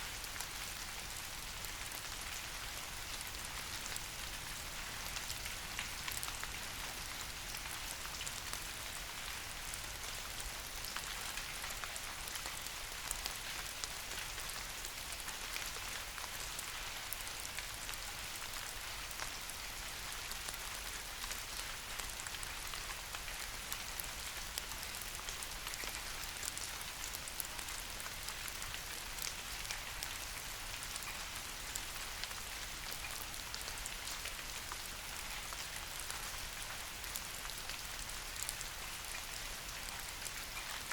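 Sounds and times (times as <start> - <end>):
rain falling on leaves: 0.0 - 40.9
raindrops ticking on leaves: 0.1 - 40.9.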